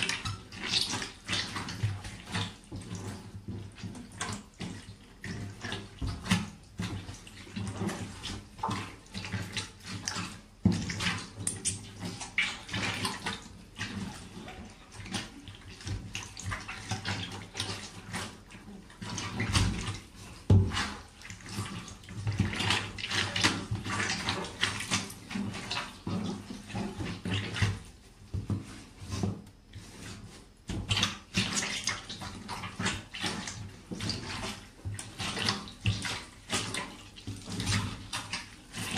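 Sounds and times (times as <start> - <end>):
boots squelching wet food: 0.0 - 38.9.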